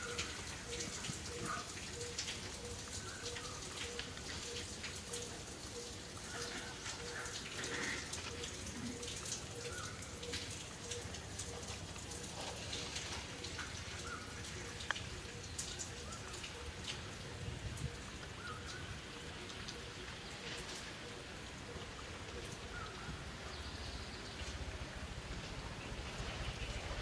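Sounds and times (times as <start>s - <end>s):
steady outdoor hiss: 0.0s - 27.0s.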